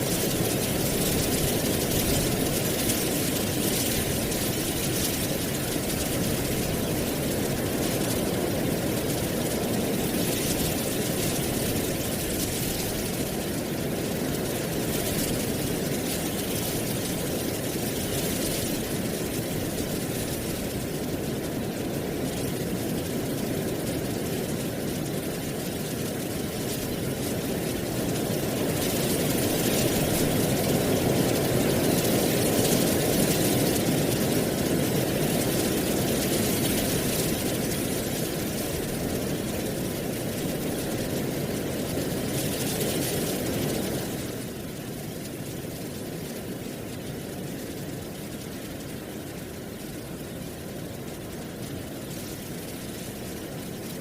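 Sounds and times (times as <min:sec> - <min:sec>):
wind rustling dry leaves: 0:00.0 - 0:54.0.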